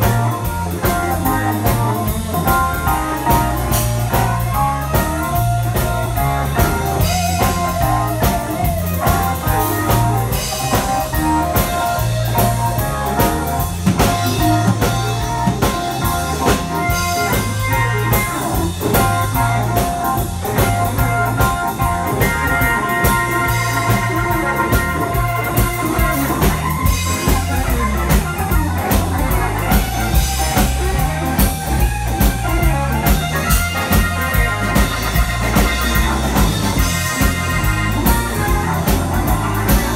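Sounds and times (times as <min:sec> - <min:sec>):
bass guitar: 0:00.0 - 0:39.9
drum kit: 0:00.0 - 0:39.9
electric guitar: 0:00.0 - 0:39.9
keyboard: 0:00.0 - 0:39.9.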